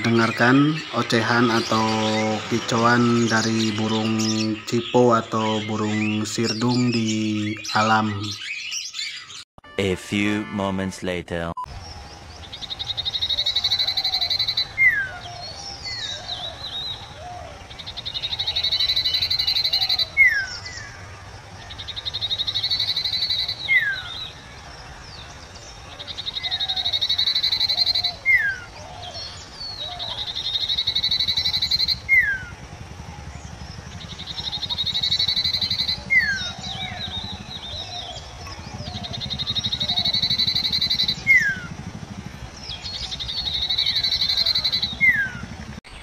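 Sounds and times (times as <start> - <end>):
bird buzzy trill song: 0.0 - 46.0.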